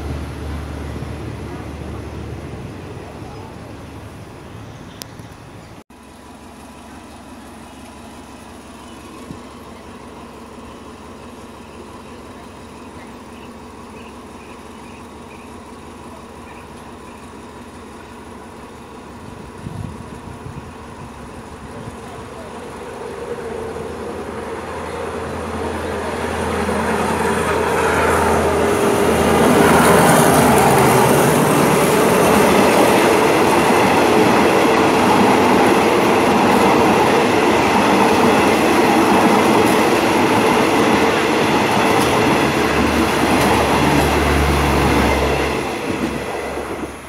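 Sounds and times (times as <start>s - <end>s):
diesel locomotive engine hum: 0.0s - 47.0s
train wheels rushing on rail: 6.4s - 47.0s.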